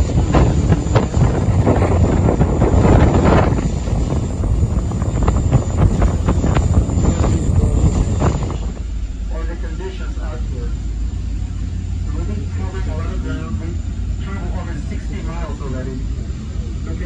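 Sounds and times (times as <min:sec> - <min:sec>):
boat engines rumbling: 0:00.0 - 0:17.0
wake churning along hull: 0:00.0 - 0:17.0
wind buffeting microphone: 0:00.0 - 0:17.0.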